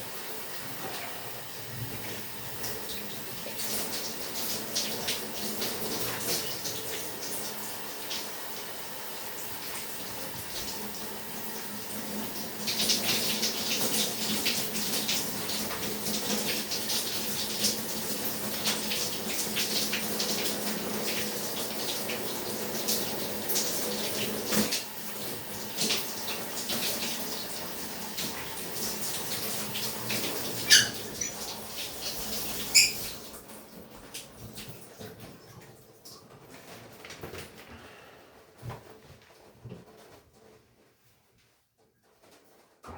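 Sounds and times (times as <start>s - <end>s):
shower water running: 0.0s - 41.5s.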